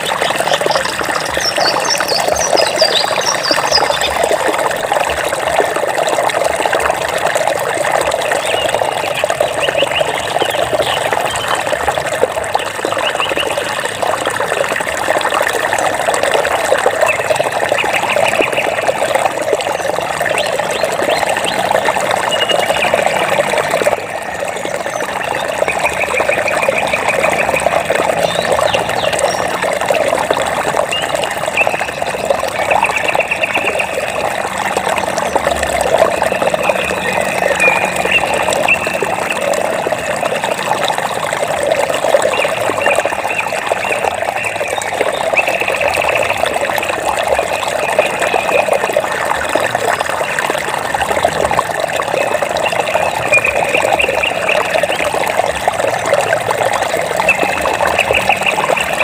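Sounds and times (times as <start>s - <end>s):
flowing water splashing: 0.0s - 59.0s.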